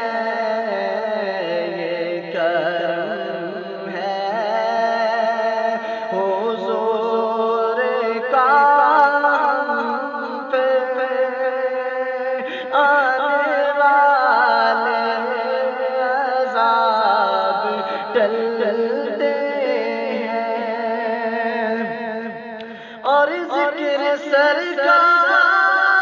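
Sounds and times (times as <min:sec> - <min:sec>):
man singing: 0:00.0 - 0:26.0.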